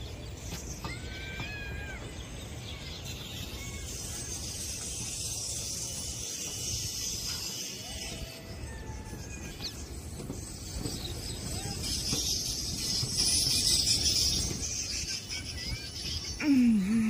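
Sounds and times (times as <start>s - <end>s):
passenger train rolling past: 0.0s - 16.4s
wheels clattering: 0.0s - 16.4s
steady high hiss: 2.1s - 17.0s.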